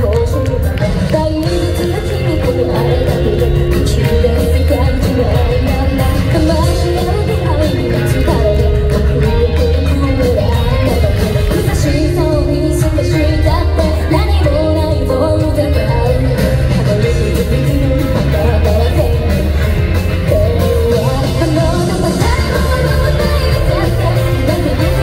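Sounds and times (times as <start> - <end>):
live rock band playing: 0.0 - 25.0
woman singing: 0.0 - 25.0.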